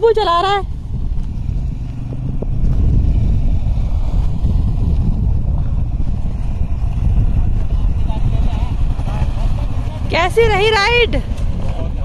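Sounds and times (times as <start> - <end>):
quad bike engine rumbling: 0.0 - 12.0.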